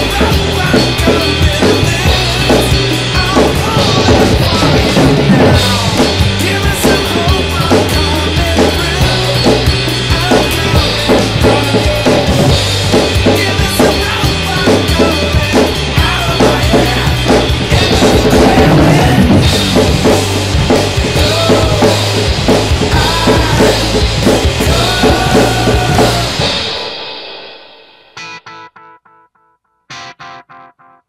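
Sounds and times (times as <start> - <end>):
drum kit played hard and fast: 0.0 - 28.8
rock backing track: 0.0 - 31.0.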